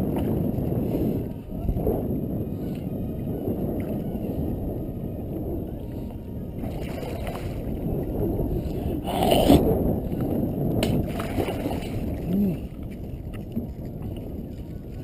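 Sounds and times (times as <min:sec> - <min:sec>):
water lapping around kayak: 0:00.0 - 0:15.0
wind noise: 0:00.0 - 0:15.0.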